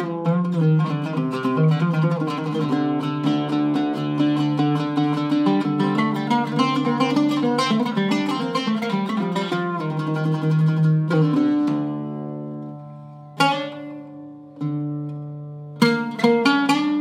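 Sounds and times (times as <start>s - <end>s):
oud plucked notes and chords: 0.0s - 17.0s.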